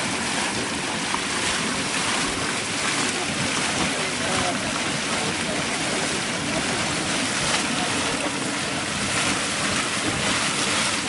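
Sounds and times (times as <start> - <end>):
steam vent rushing: 1.4 - 11.0.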